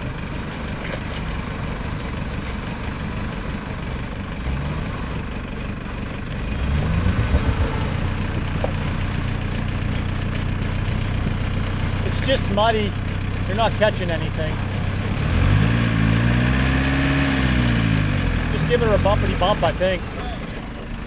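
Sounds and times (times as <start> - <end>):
suv engine revving: 0.0 - 21.0.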